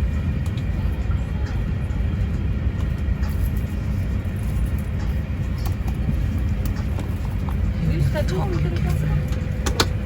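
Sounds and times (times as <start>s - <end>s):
air-conditioning low rumble: 0.0s - 10.0s.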